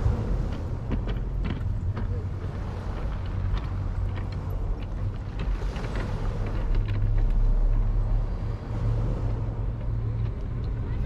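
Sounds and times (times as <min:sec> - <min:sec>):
sea waves washing on shore: 0:00.0 - 0:11.0.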